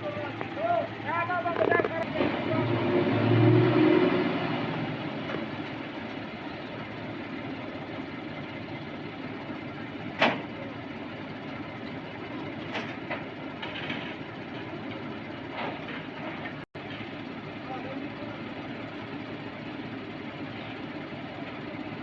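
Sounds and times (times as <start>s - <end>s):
crane engine and machinery: 0.0s - 22.0s.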